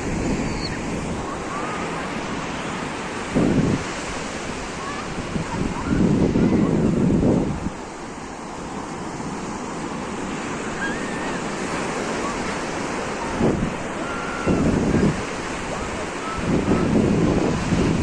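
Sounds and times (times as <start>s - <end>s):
sea waves washing on beach: 0.0s - 18.0s
wind on microphone: 0.0s - 18.0s.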